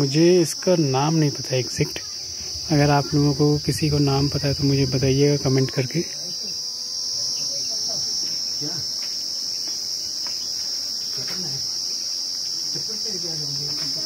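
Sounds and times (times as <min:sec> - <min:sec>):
flying insects buzzing past: 0:00.0 - 0:14.0
high-pitched insect trill: 0:00.0 - 0:14.0.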